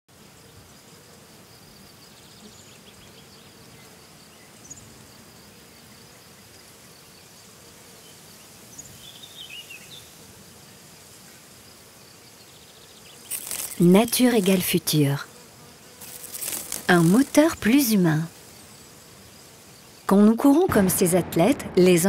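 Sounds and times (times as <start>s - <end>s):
insect buzz: 0.1s - 21.3s.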